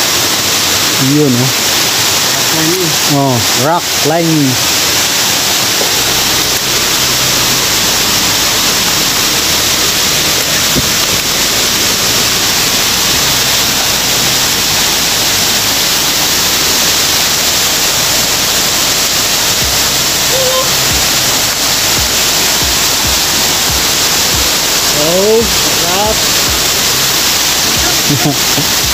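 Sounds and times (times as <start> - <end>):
rocky stream rushing: 0.0 - 28.9.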